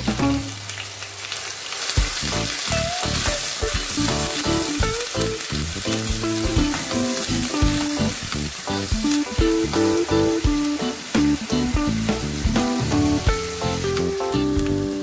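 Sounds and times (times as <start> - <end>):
onion paste sizzling in oil: 0.0 - 15.0
background music with melody: 2.0 - 15.0.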